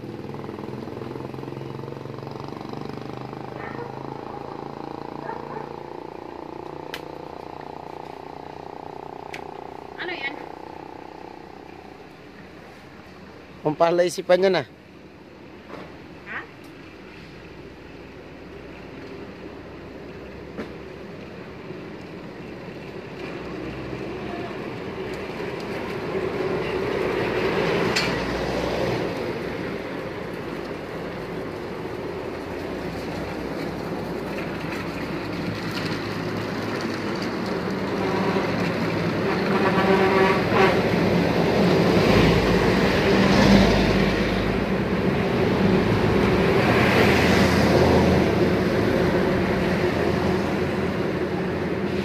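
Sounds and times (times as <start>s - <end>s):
low rumble of close vehicle: 0.0s - 52.0s
passing vehicle engines: 0.0s - 52.0s.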